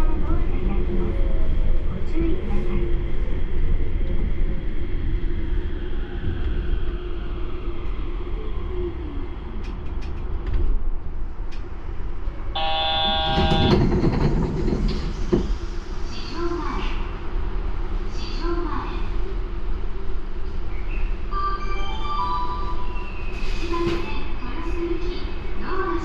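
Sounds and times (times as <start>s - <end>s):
train running rumble: 0.0s - 21.3s.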